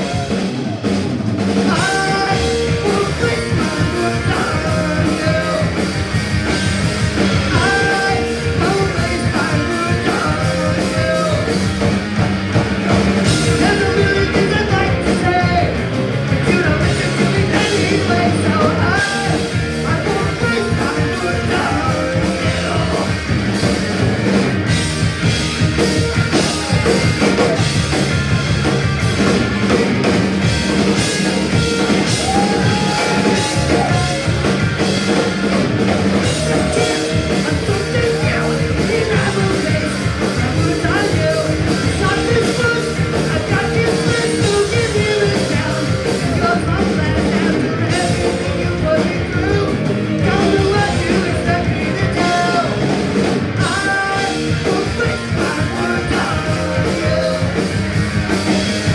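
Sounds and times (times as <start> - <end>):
drum kit: 0.0 - 58.9
guitars: 0.0 - 58.9
person singing: 1.6 - 12.0, 12.8 - 23.7, 30.9 - 58.9.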